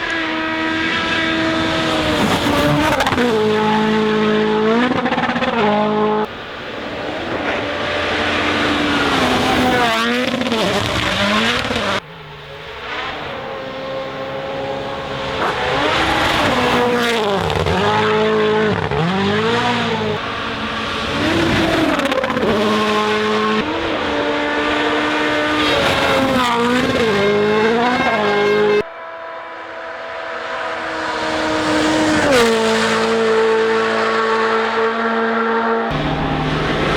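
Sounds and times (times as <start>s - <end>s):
rally car engines revving: 0.0s - 36.9s.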